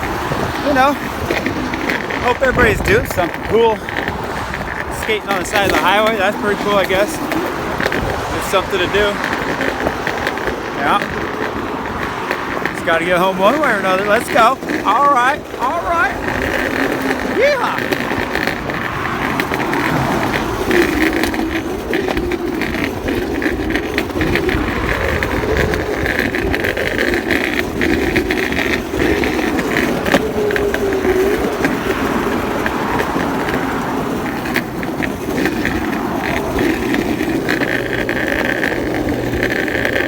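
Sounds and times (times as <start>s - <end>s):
longboard wheels rolling on pavement: 0.0s - 40.0s.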